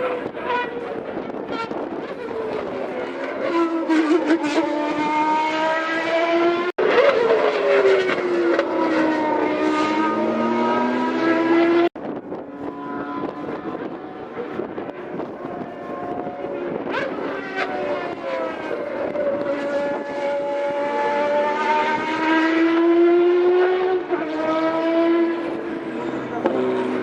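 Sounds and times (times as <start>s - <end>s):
racing engine accelerating: 0.0s - 27.0s.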